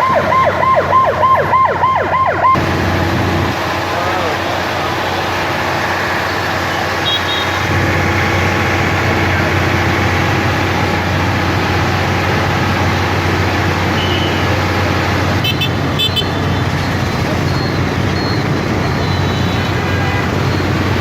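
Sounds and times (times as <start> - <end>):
road noise: 0.0 - 21.0
vehicle engine running: 0.0 - 21.0.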